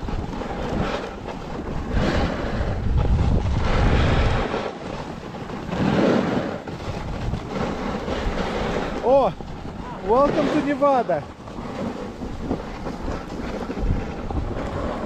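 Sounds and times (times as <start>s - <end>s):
skis sliding on snow: 0.0s - 15.0s
wind buffeting microphone: 0.0s - 15.0s.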